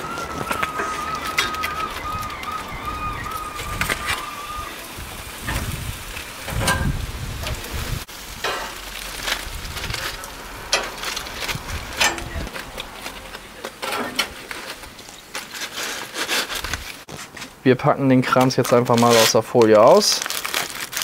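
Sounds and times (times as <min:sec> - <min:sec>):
aluminium foil crinkling: 0:00.0 - 0:06.5, 0:08.0 - 0:17.6, 0:18.3 - 0:21.0.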